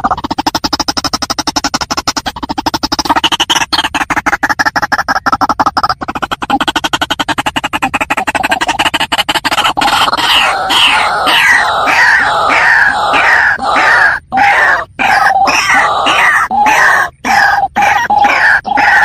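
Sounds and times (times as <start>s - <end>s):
bird calling in harsh croaks: 0.0s - 19.0s.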